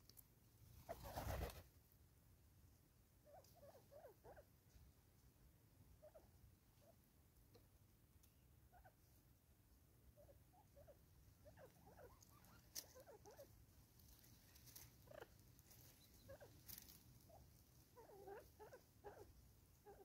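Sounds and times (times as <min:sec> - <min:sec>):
faint bird chirps and clucks: 0:00.0 - 0:01.8, 0:03.0 - 0:20.0.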